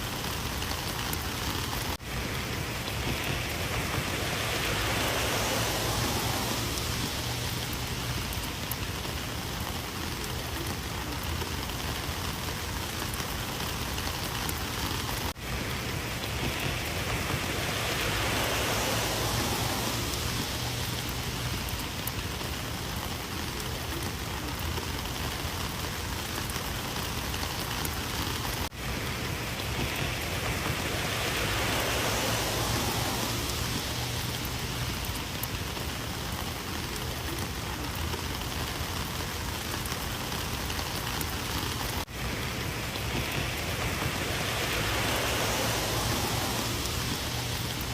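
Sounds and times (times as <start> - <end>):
rain falling steadily: 0.0 - 47.9.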